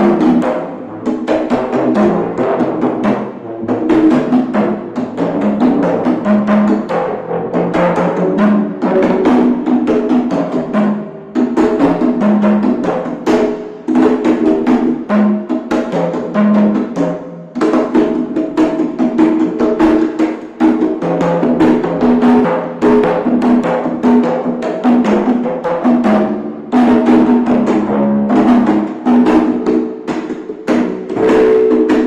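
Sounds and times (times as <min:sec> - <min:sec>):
congas and djembe hand drumming: 0:00.0 - 0:32.0.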